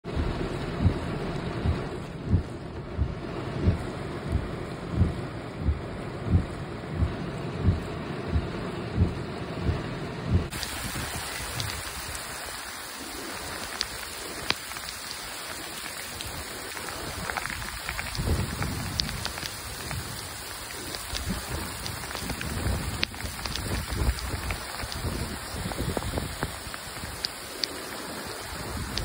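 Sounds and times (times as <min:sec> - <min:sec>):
dull low bumps: 0:00.0 - 0:12.3, 0:13.3 - 0:27.3
raindrops ticking close by: 0:00.0 - 0:29.0
heavy rain hissing: 0:00.1 - 0:29.0.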